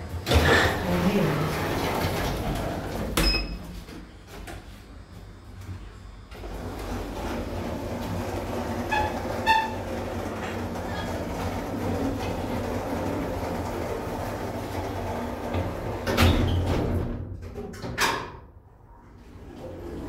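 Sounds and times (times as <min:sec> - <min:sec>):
steel doors sliding open: 0:00.0 - 0:03.4, 0:06.3 - 0:18.3, 0:19.2 - 0:20.0.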